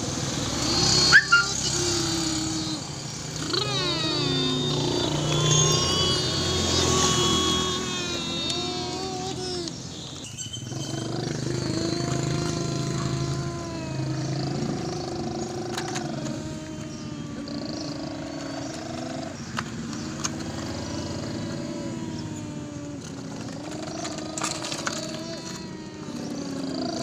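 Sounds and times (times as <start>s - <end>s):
person making engine noises: 0.0s - 27.0s
sharp clicks: 0.6s - 27.0s.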